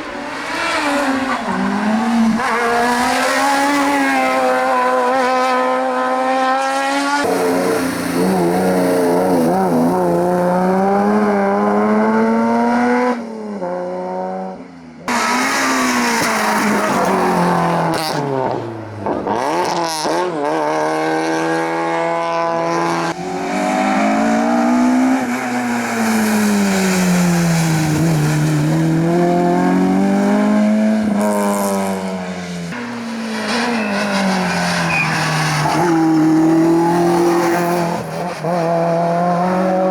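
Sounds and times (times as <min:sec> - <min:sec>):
race car engines revving: 0:00.0 - 0:14.4, 0:15.0 - 0:39.9.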